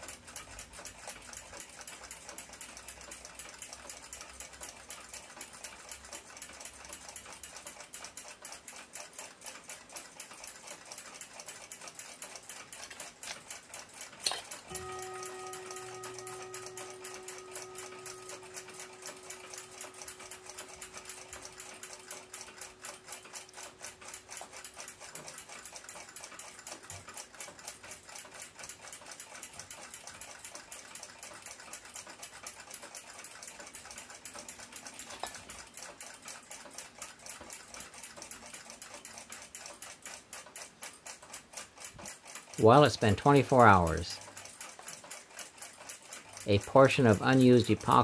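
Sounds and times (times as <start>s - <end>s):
clock ticking rapidly: 0.0s - 48.0s.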